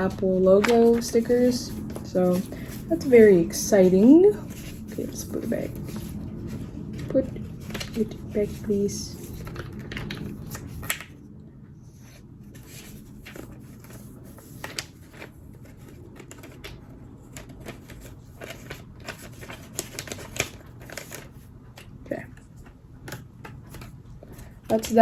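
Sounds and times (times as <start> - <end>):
paper packaging rustling: 0.0 - 11.2, 12.1 - 25.0.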